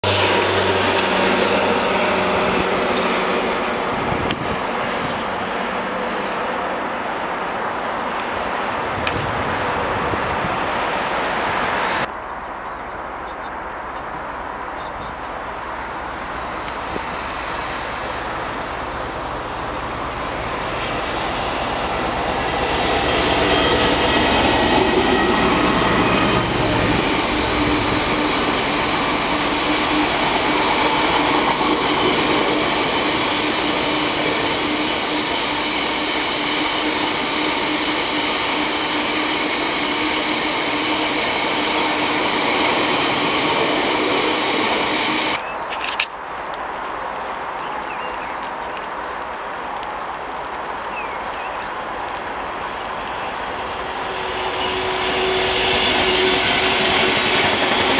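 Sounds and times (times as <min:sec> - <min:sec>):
freight train heavy rumble: 0:00.0 - 0:12.1, 0:13.8 - 0:46.1, 0:51.5 - 0:57.9.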